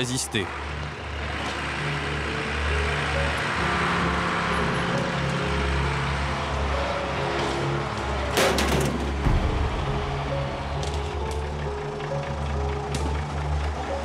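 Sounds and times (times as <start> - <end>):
truck engine running under load: 0.5 - 14.0.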